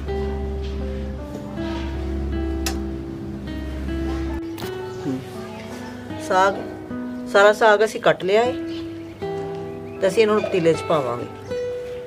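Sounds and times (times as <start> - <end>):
background music with steady bass: 0.0 - 12.0.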